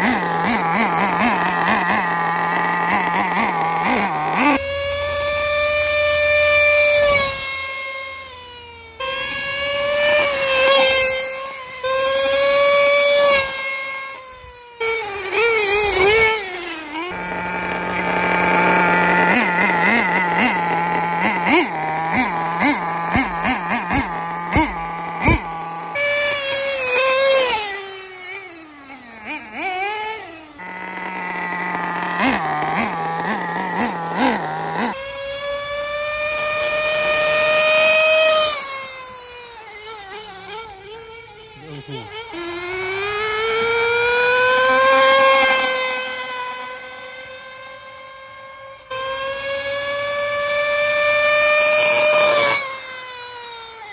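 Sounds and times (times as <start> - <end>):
nitro engine revving: 0.0 - 53.9.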